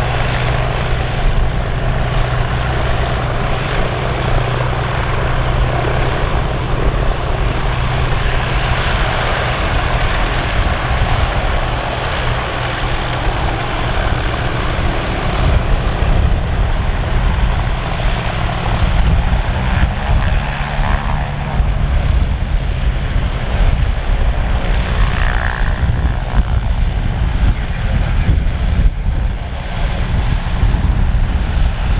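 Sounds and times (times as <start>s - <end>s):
low rumble: 0.0s - 31.9s
propeller aircraft engines: 0.0s - 31.9s.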